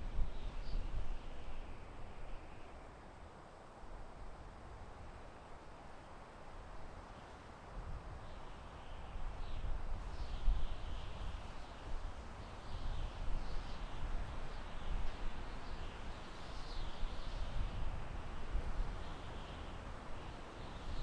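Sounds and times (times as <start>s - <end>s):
wind blowing through forest: 0.0s - 21.0s.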